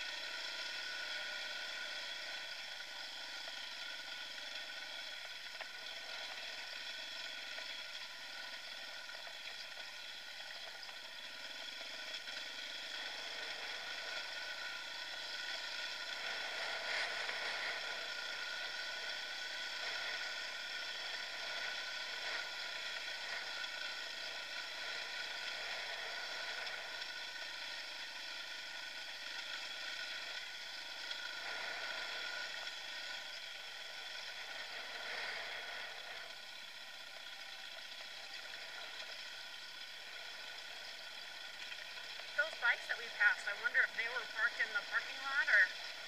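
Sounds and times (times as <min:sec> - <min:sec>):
dirt bike engine running: 0:00.0 - 0:46.0.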